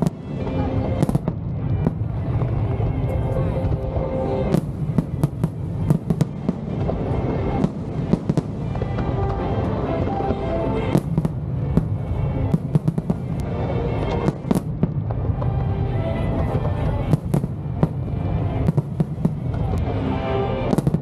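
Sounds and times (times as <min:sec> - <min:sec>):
fireworks bangs and crackles: 0:00.0 - 0:21.0
music: 0:00.0 - 0:21.0.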